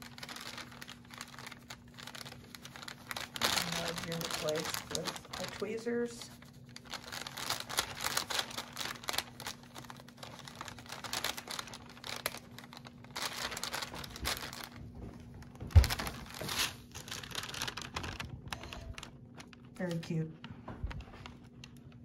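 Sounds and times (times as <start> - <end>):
plastic sheet rustling and crinkling: 0.0 - 22.0.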